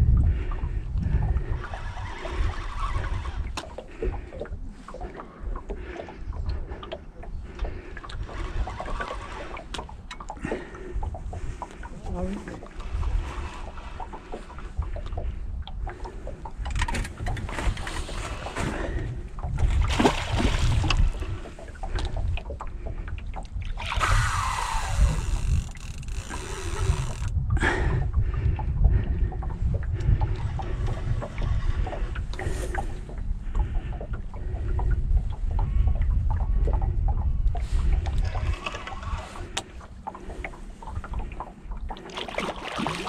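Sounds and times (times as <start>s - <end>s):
waves lapping against boat hull: 0.0s - 43.0s
wind buffeting microphone: 0.0s - 43.0s.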